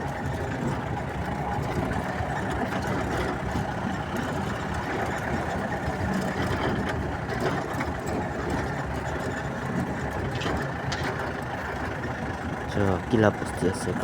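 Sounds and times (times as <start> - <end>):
road noise: 0.0 - 14.0
vehicle engine running: 0.0 - 14.0.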